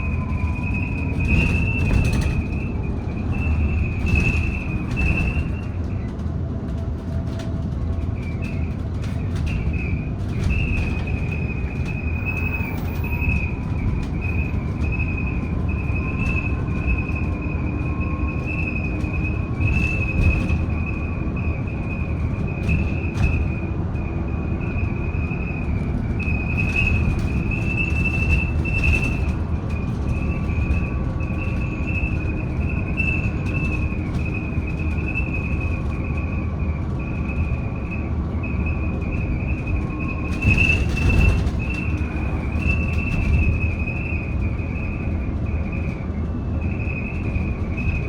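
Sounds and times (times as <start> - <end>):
low road rumble: 0.0 - 48.0.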